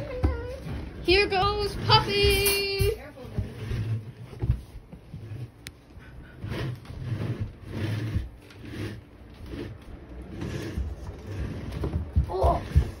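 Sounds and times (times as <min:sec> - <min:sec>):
toy truck rolling on wooden floor: 0:00.0 - 0:13.0.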